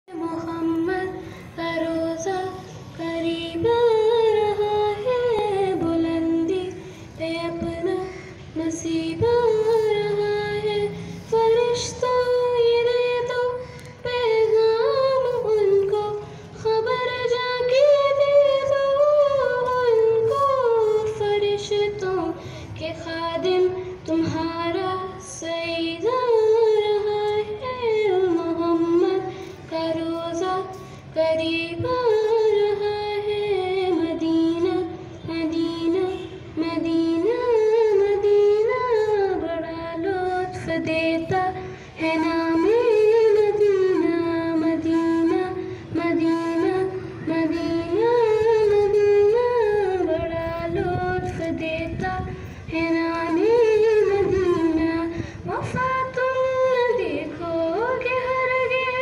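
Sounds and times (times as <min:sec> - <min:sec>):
girl singing unaccompanied: 0:00.1 - 0:59.0.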